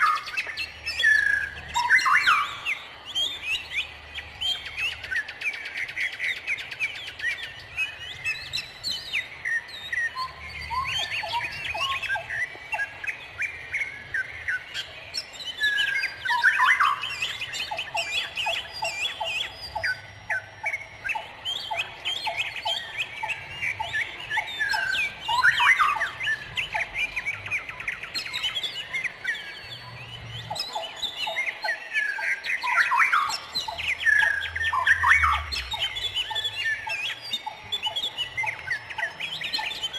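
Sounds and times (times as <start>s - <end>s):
bird rapid evenly spaced notes: 0.0s - 39.9s
birds chirping and calling: 0.0s - 39.9s.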